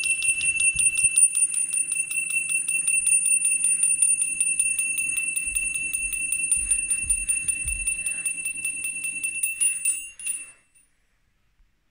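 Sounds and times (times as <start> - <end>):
electric bell ringing rapidly: 0.0 - 10.8.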